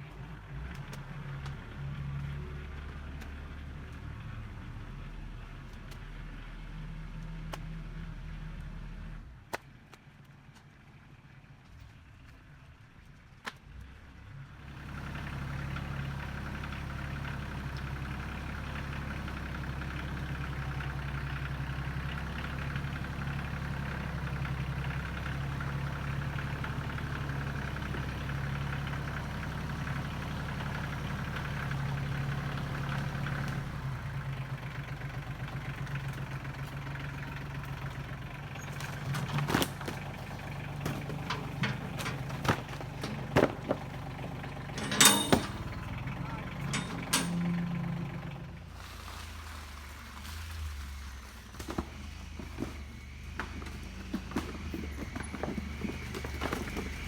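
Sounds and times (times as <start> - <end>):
vehicle engine running: 0.0 - 9.5, 10.1 - 57.0.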